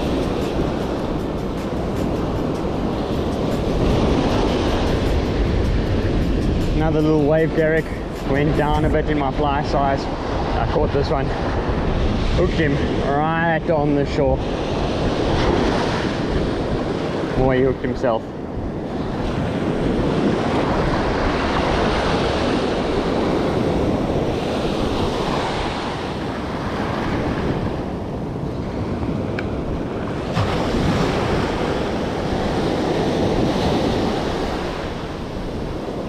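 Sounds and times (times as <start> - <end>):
surf breaking on a beach: 0.0 - 36.0
wind buffeting microphone: 0.0 - 36.0.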